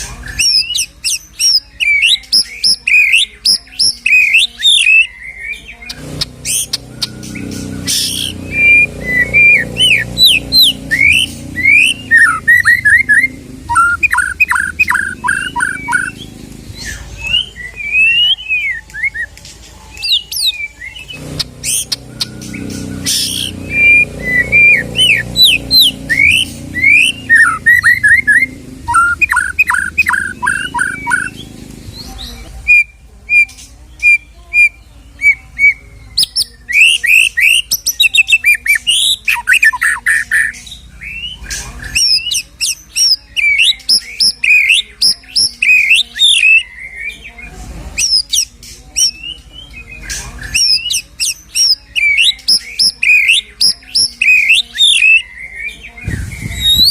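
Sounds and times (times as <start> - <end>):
bird singing whistles and trills: 0.2 - 47.4, 48.0 - 56.9.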